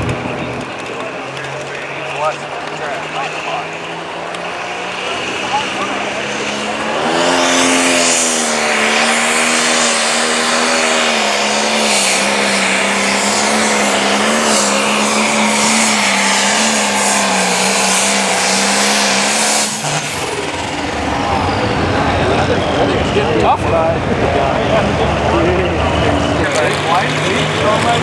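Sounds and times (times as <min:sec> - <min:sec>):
diesel engine running flat out: 0:00.0 - 0:28.0.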